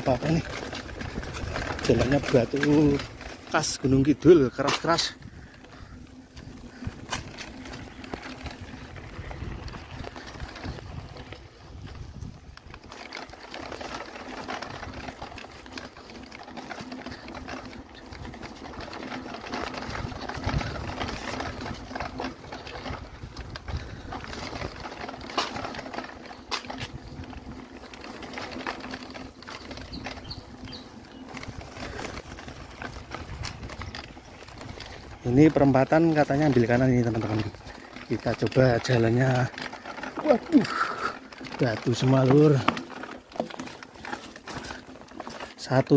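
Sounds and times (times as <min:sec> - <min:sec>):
bike knocks and rattles: 0:00.0 - 0:45.9
bike tyres on stony dirt: 0:00.0 - 0:45.9.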